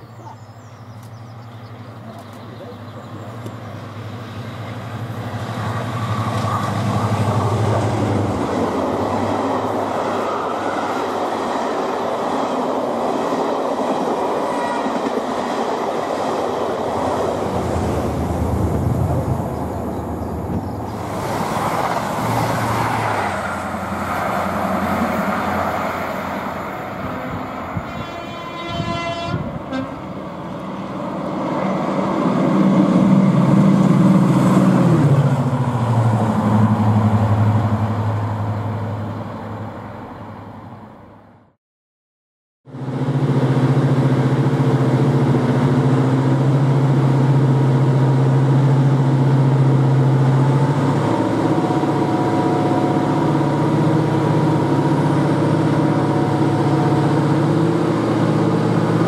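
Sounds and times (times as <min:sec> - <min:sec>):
train rushing and clattering on rails: 0:00.0 - 0:41.0, 0:42.7 - 0:59.0
diesel locomotive engine: 0:00.0 - 0:41.5, 0:42.7 - 0:59.0.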